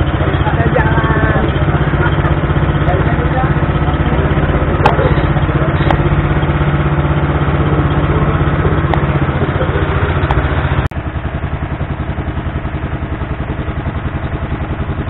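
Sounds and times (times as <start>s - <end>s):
boat engine pulsing: 0.0s - 15.0s.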